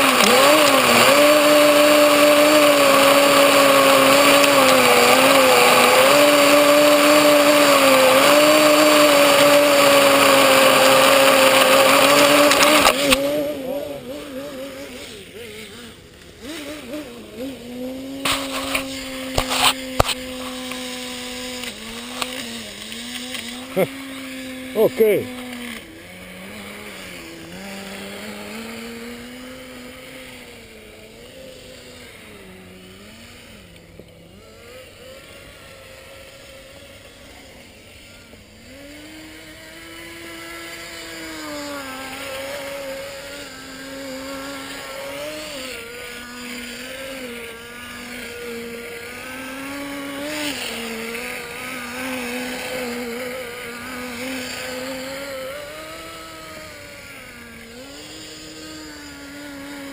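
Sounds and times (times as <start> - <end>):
small nitro engine revving: 0.0 - 59.9.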